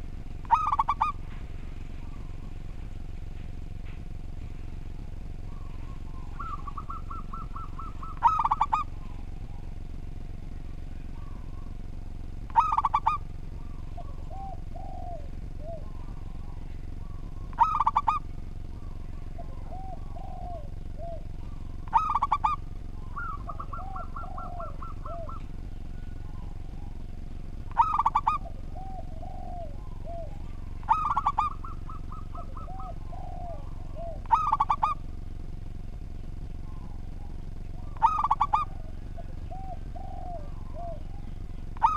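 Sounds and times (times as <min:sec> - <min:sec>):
dove cooing: 0:00.0 - 0:03.1, 0:03.8 - 0:41.9
soft rolling trills: 0:00.0 - 0:41.9
steady low hum: 0:00.0 - 0:41.9.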